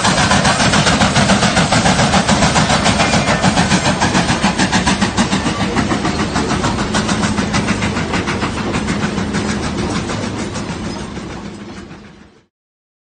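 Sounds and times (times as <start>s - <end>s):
train running: 0.0s - 12.5s.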